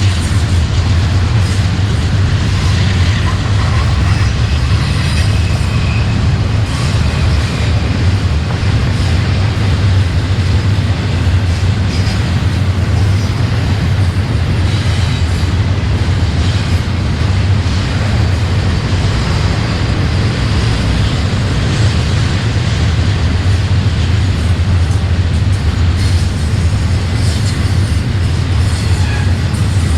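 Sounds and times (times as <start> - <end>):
freight train rumbling on rails: 0.0 - 29.9.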